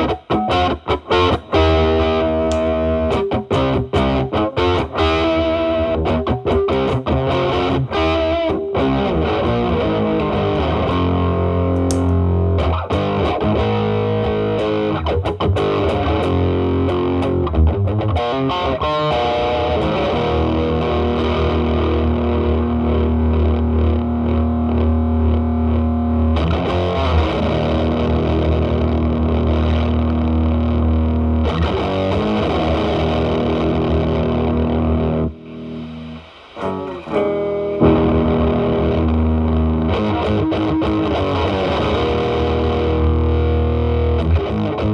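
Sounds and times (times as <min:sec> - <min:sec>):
heavily distorted electric guitar: 0:00.0 - 0:44.9.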